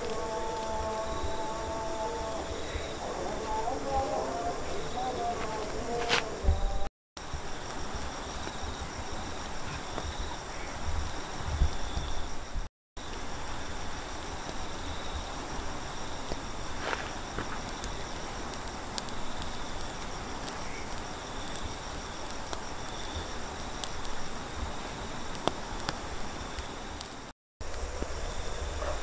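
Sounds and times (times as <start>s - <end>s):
charcoal fire crackling: 0.0s - 29.0s
night insects chirring: 0.0s - 29.0s.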